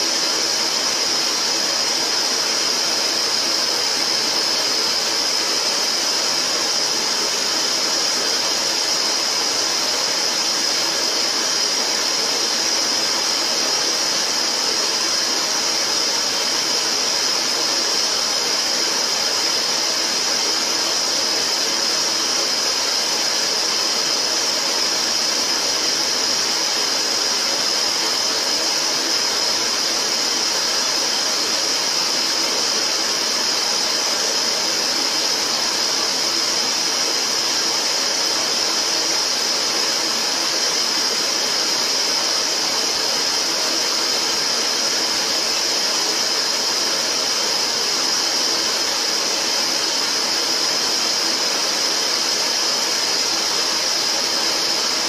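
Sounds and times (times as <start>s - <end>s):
static hiss: 0.0s - 55.0s.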